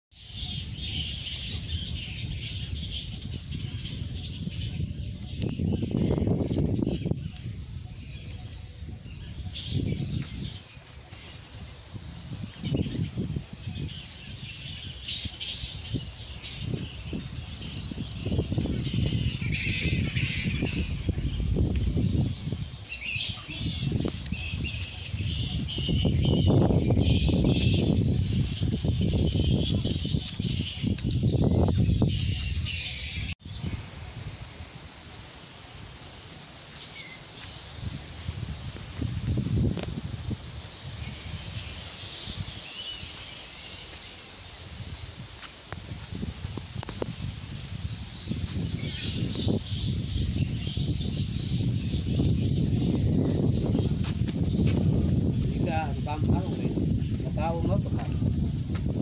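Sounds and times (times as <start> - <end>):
birds chirping: 0.1 - 34.4, 36.7 - 58.4
wind rumble on microphone: 0.1 - 35.0, 37.4 - 59.0.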